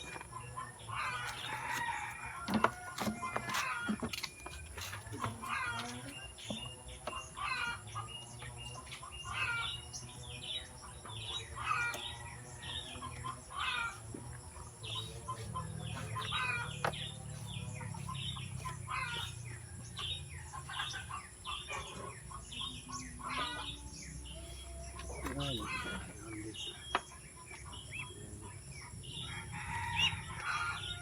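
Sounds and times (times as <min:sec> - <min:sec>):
birds chirping: 0:00.0 - 0:31.0
chickens clucking: 0:00.0 - 0:31.0.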